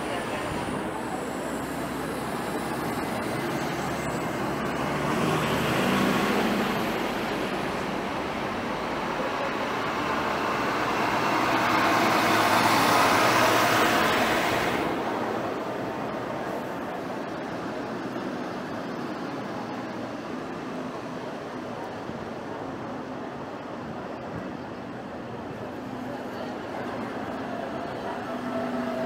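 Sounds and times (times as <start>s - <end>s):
passing vehicles: 0.0s - 29.0s.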